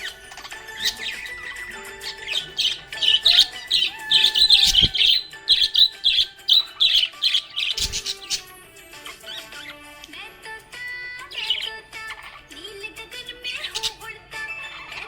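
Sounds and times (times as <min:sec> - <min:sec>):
budgerigars chirping and squawking: 0:00.0 - 0:10.2, 0:11.1 - 0:15.0.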